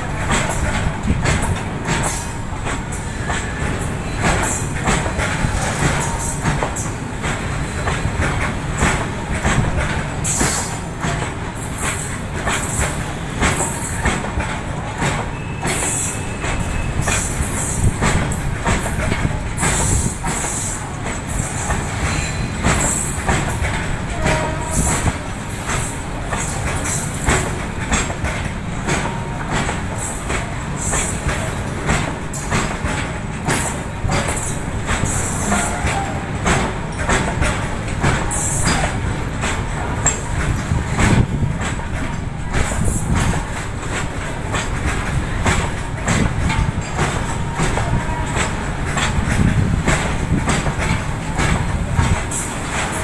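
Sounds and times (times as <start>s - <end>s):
heavy train rumble: 0.0s - 53.0s
train wheels clattering over joints: 0.0s - 53.0s.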